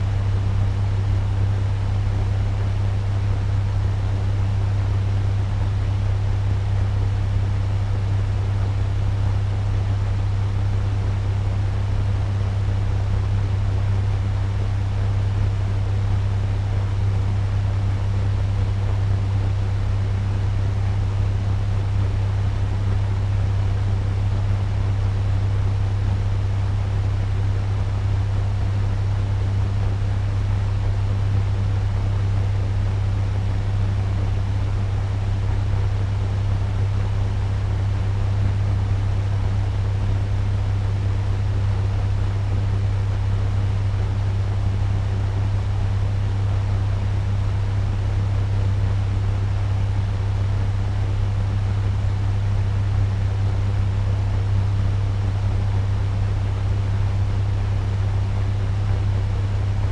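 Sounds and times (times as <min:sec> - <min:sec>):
fan humming with airy rush: 0:00.0 - 0:59.9.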